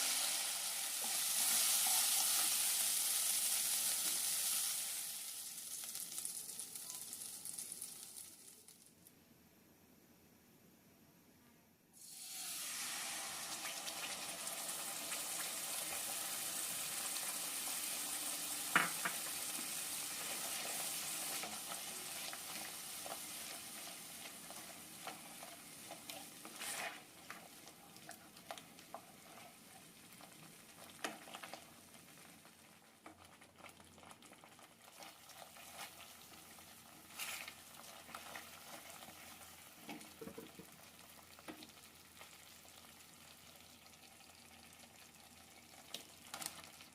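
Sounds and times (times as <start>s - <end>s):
food sizzling in a pan: 0.0s - 8.9s, 12.0s - 46.9s.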